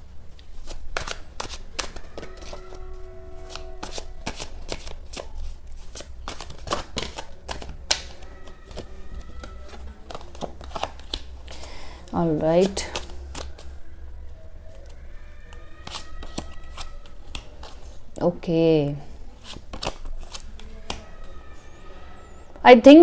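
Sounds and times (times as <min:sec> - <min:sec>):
cards being shuffled: 0:00.3 - 0:13.8, 0:14.7 - 0:18.2, 0:19.3 - 0:21.4.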